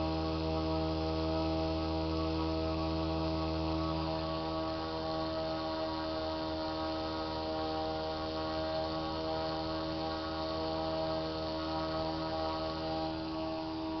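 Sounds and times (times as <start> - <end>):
electric motor buzzing hum: 0.0 - 14.0.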